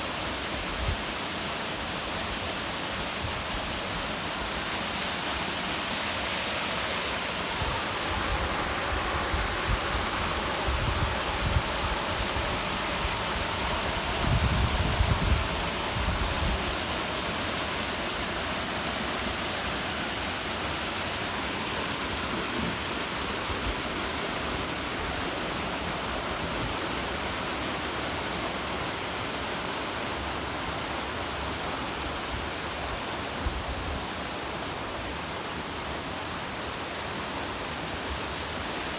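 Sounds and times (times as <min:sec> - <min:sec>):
waterfall rushing: 0:00.0 - 0:33.4.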